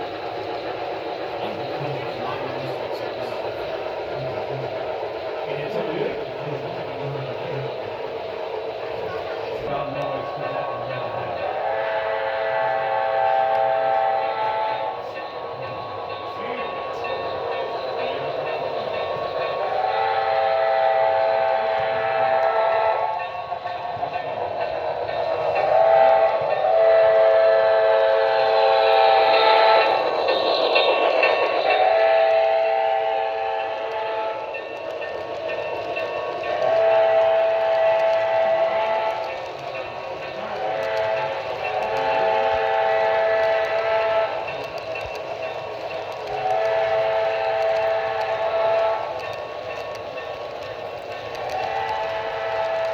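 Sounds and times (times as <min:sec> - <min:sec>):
steam locomotive chime whistle: 0:09.6 - 0:52.9.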